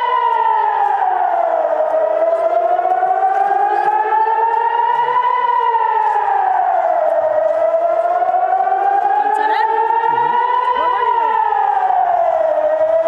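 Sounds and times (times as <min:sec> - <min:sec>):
air-raid siren wailing: 0:00.0 - 0:13.0.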